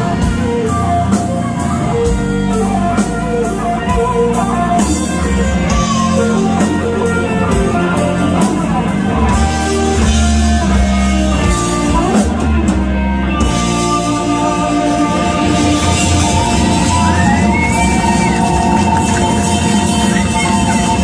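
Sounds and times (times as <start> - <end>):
bass guitar: 0.0 - 21.0
drum kit beat: 0.0 - 21.0
electric guitars strumming chords: 0.0 - 21.0.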